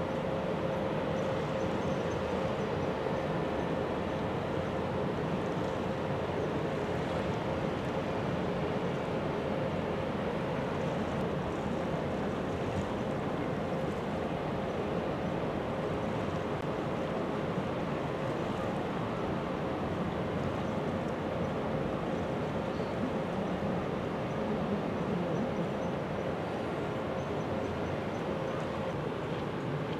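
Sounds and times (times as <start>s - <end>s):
faint constant hum: 0.0s - 29.9s
ship machinery drone: 0.0s - 29.9s.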